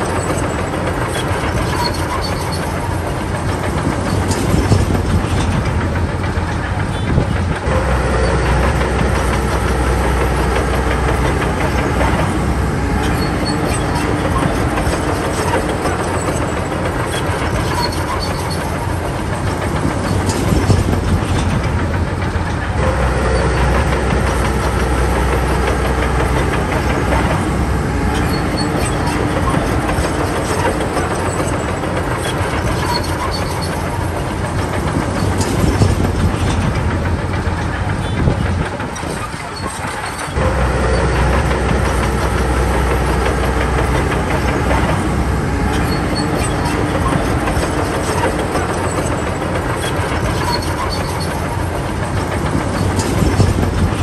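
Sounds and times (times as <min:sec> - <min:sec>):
bulldozer diesel engine under load: 0:00.0 - 0:54.0
steel tracks clanking: 0:00.0 - 0:54.0.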